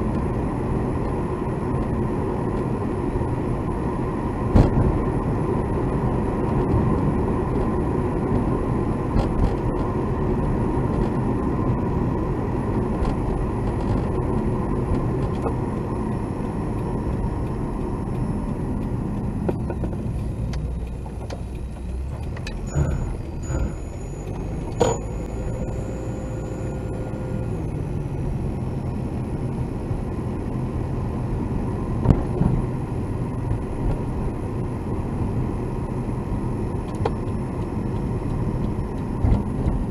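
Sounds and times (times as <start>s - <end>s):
car cabin road and engine noise: 0.0s - 39.9s.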